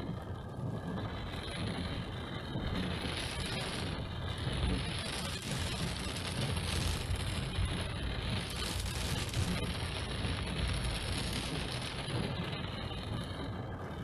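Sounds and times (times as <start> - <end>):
car and wet road rumble: 0.0 - 14.0
heavy rain on a car: 0.0 - 14.0.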